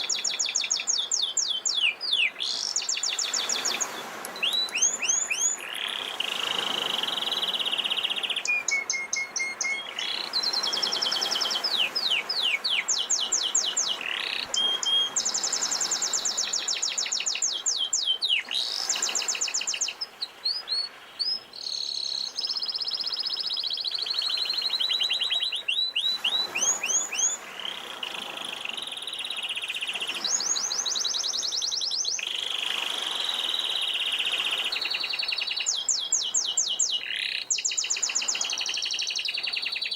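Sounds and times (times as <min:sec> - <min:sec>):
canary singing trills: 0:00.0 - 0:32.6, 0:33.3 - 0:39.9.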